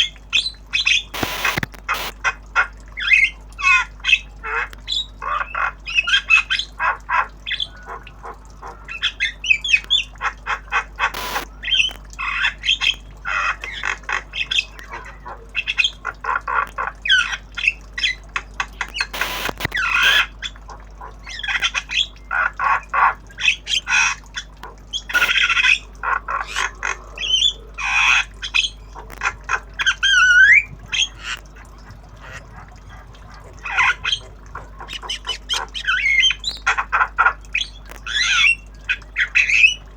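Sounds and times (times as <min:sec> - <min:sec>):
myna squawks and clicks: 0:00.0 - 0:39.9.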